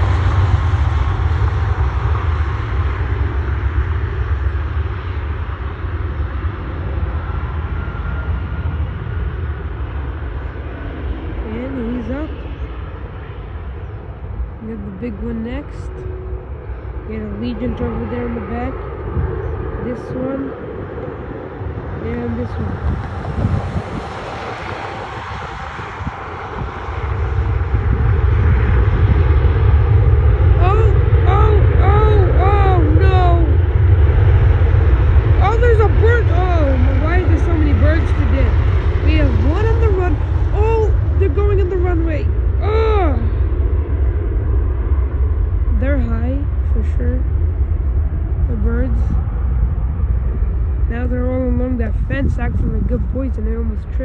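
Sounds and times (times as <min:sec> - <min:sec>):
jet aircraft taking off: 0:00.0 - 0:54.0.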